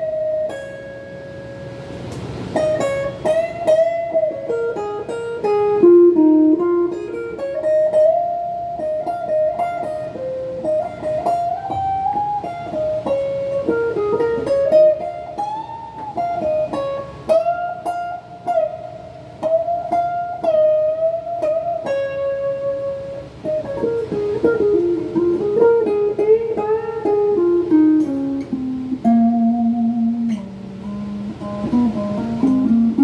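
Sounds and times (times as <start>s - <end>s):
electric guitar melodic lead: 0.0s - 33.0s.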